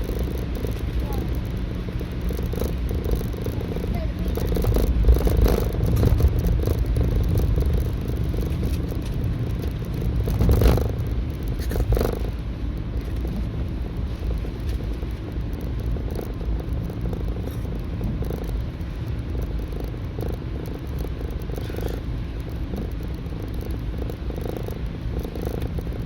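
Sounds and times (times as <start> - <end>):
low rough rumble: 0.0 - 26.0.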